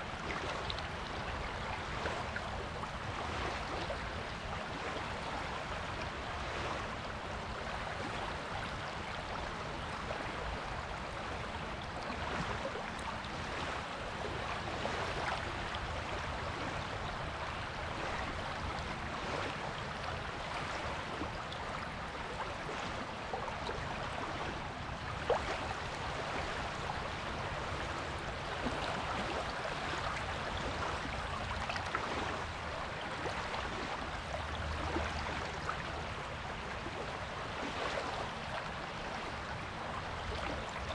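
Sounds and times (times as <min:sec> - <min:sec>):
small waves washing onto beach: 0:00.0 - 0:40.9.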